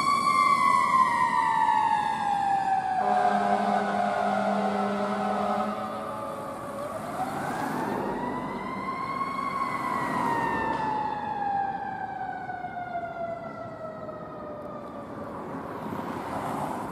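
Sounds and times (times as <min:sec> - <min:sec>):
fire engine siren wailing: 0:00.0 - 0:16.9.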